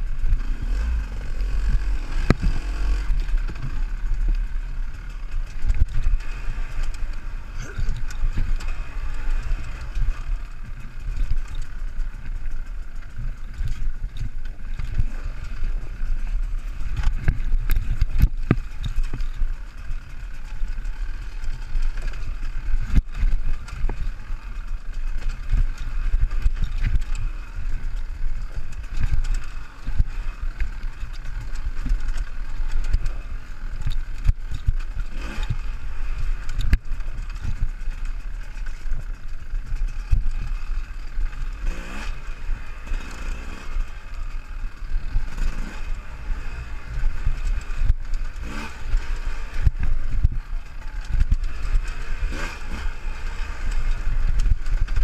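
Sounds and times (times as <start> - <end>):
motorcycle engine at low revs: 0.0 - 55.0
motorcycle jolting over rocks: 0.0 - 55.0.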